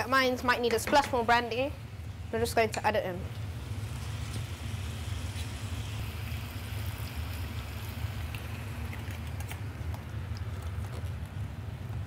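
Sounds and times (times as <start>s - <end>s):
frying pan sizzling: 0.0s - 10.8s
steady low hum: 0.0s - 12.0s.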